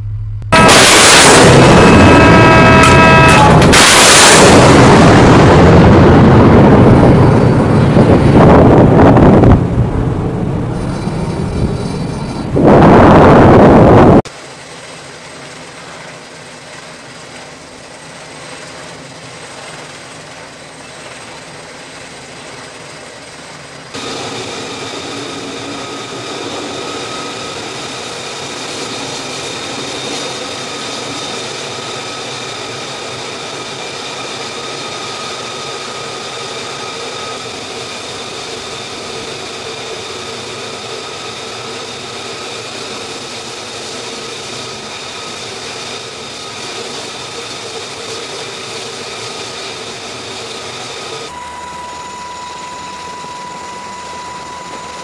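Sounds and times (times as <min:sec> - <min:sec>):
jet engine whining: 0:00.0 - 0:55.0.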